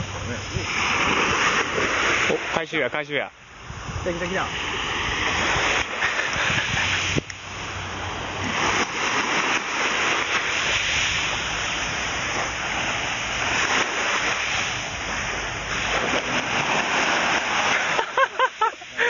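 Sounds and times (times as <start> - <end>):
small waves washing onto sand: 0.0 - 19.0.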